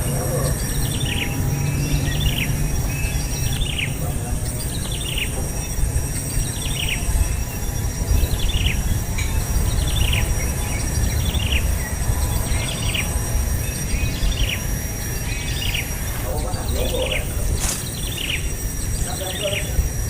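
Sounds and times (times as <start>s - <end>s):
bird chirping: 0.0s - 20.0s
steady low rumble: 0.0s - 20.0s.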